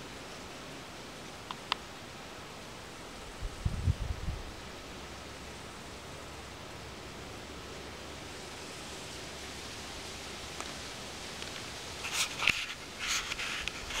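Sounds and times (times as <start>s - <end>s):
grass and reeds rustling: 0.0s - 14.0s
steady outdoor hiss: 0.0s - 14.0s.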